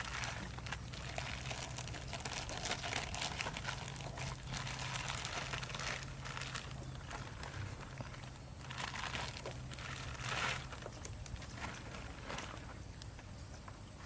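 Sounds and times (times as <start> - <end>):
crinkling handling noise: 0.0 - 13.8
steady low hum: 0.0 - 14.0.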